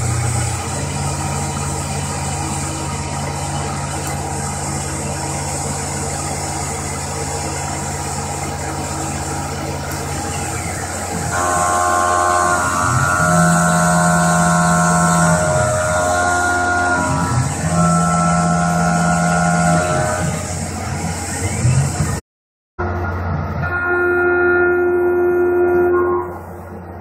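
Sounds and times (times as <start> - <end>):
high-pitched cutting whine: 0.0 - 22.2, 22.8 - 27.0
milling machine hum: 0.0 - 22.2.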